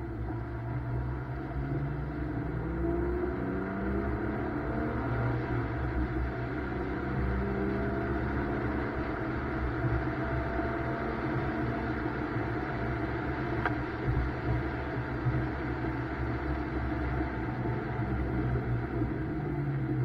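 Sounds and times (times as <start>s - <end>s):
car engine running: 0.0s - 20.0s
road and tyre noise: 0.0s - 20.0s.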